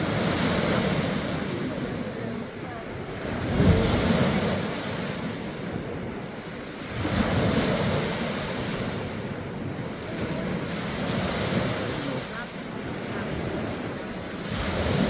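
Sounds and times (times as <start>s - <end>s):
small waves breaking on beach: 0.0s - 15.0s
wind buffeting microphone: 0.0s - 15.0s.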